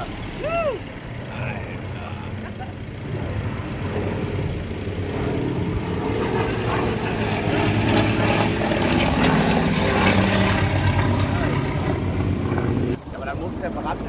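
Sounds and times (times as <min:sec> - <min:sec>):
low-flying aircraft engine: 0:00.0 - 0:14.0.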